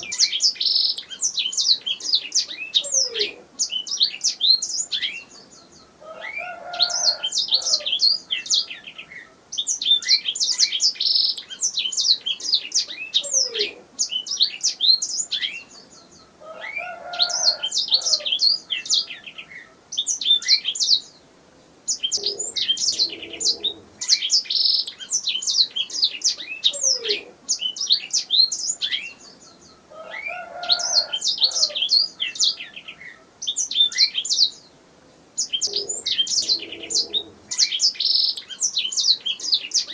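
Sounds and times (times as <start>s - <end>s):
canary singing trills: 0.0s - 21.2s, 21.8s - 34.7s, 35.4s - 39.9s.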